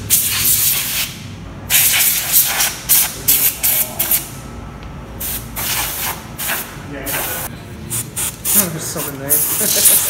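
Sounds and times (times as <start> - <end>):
compressed air hissing: 0.1 - 4.2, 5.2 - 10.0.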